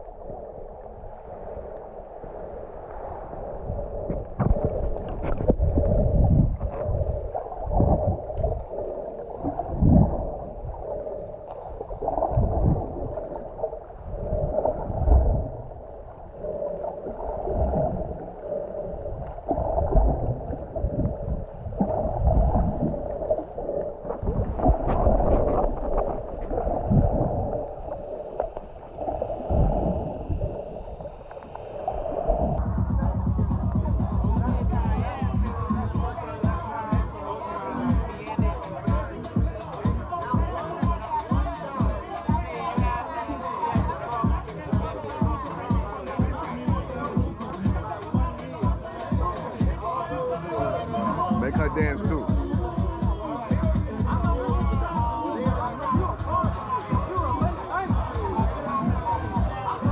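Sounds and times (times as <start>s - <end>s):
muffled water sloshing and gurgling: 0.0s - 59.9s.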